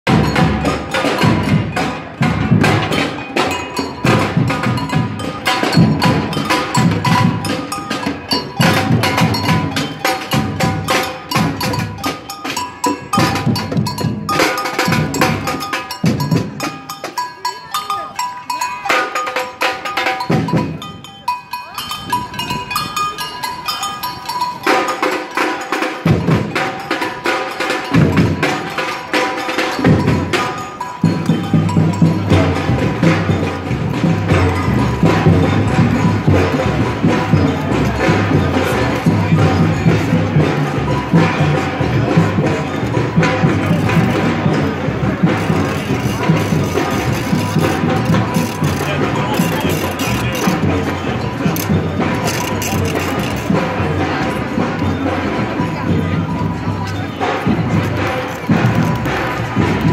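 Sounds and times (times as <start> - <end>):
street percussion band playing: 0.0 - 59.9
heavy bass drum beats: 0.1 - 59.9.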